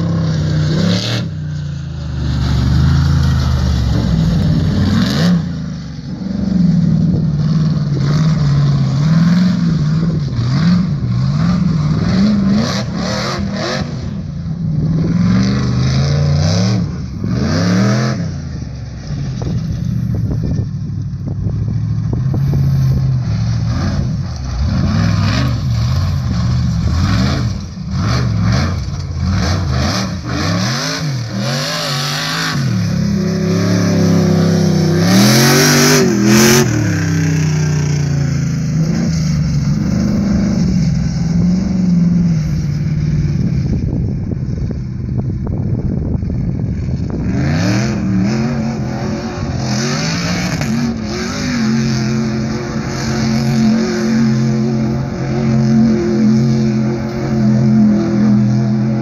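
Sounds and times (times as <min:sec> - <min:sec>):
buggy engine revving hard: 0:00.0 - 0:59.0.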